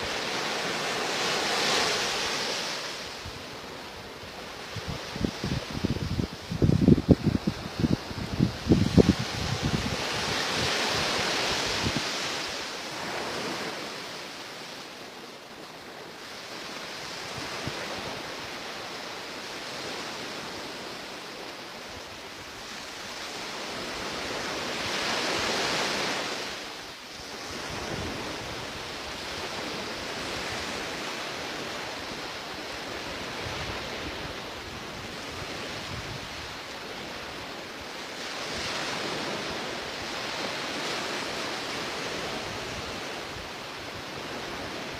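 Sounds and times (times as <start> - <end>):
sea waves washing onto shore: 0.0 - 44.9.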